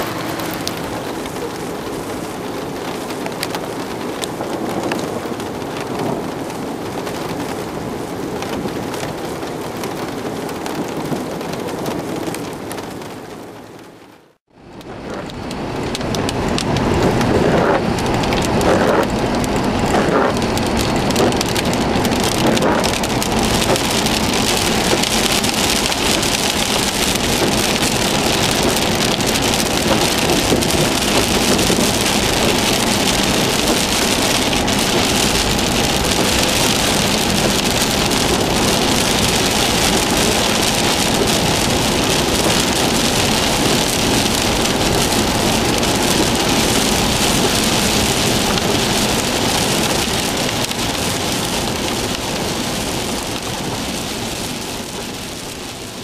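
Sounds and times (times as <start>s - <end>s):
heavy rain on car roof: 0.0s - 56.0s
road noise: 0.0s - 56.0s.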